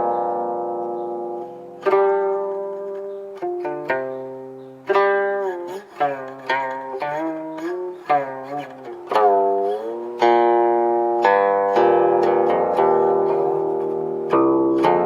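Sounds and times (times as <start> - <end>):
plucked zither notes sliding: 0.0 - 15.0.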